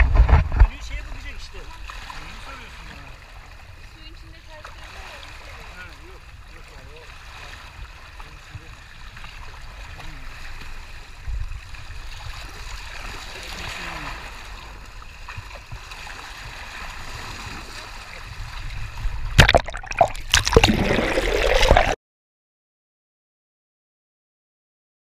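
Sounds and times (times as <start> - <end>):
water sloshing and gurgling: 0.0 - 22.0
water splashing over microphone: 0.0 - 22.0.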